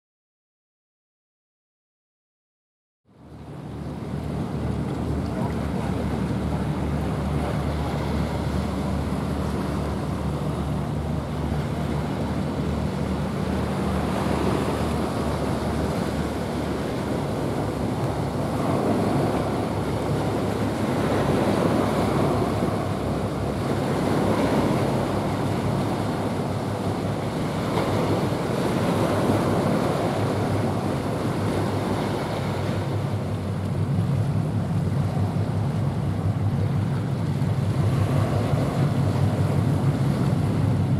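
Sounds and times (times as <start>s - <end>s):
ship diesel engine hum: 3.1s - 40.9s
water rushing along hull: 3.1s - 40.9s
wind on microphone: 3.4s - 40.9s.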